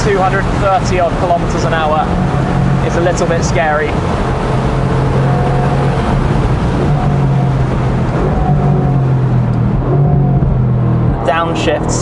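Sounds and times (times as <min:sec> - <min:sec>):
car engine drone at full throttle: 0:00.0 - 0:12.0
wind rush: 0:00.0 - 0:12.0.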